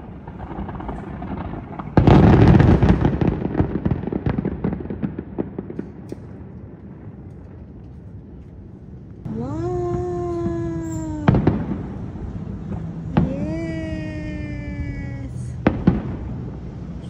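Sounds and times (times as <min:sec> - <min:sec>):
distant fireworks bangs: 0:00.0 - 0:07.6, 0:09.4 - 0:17.0.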